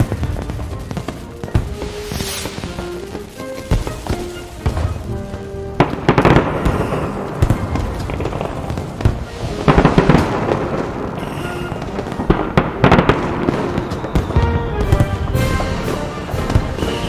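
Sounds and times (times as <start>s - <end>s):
fireworks bangs and crackles: 0.0s - 17.0s
music: 0.0s - 17.0s.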